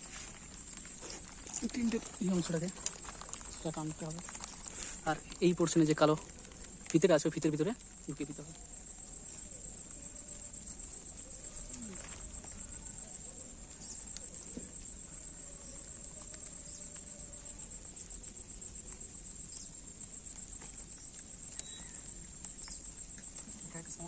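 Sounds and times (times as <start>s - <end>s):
high-pitched insect trill: 0.0s - 24.0s
tent poles and fabric rustling: 0.0s - 24.0s.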